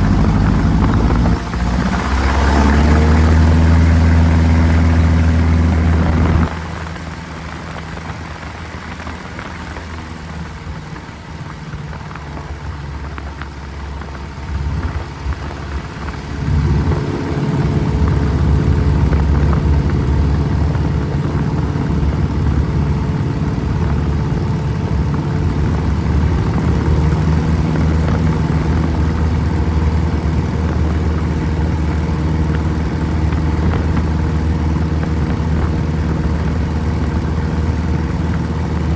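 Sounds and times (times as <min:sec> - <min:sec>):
airplane piston engine running: 0:00.0 - 0:10.1, 0:11.1 - 0:38.9.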